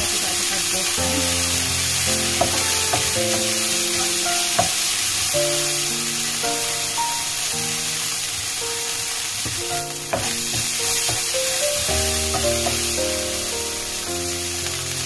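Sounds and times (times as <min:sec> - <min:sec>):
food sizzling in a frying pan: 0:00.0 - 0:15.0
soft background music: 0:00.0 - 0:15.0.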